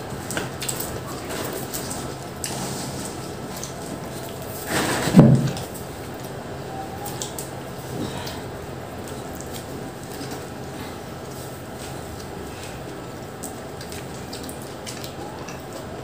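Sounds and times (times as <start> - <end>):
quiet chewing: 0.1 - 6.4, 7.0 - 16.0.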